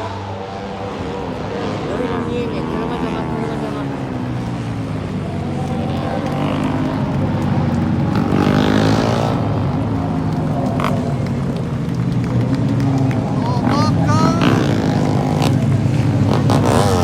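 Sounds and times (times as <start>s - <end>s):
racing motorcycles at high revs: 0.0s - 17.0s.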